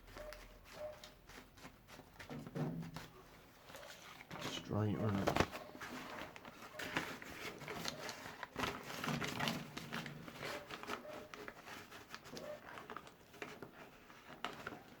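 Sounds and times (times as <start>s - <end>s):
paper crinkling: 0.0s - 15.0s.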